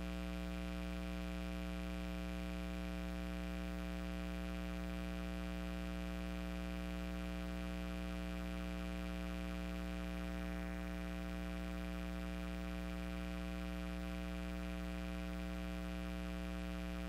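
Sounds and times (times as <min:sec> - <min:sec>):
mains hum: 0:00.0 - 0:17.0.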